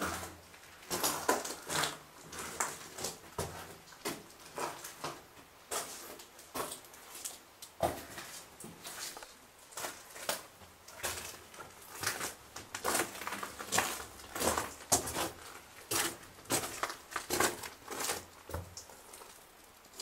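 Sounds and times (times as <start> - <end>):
footsteps crunching: 0.0 - 18.6.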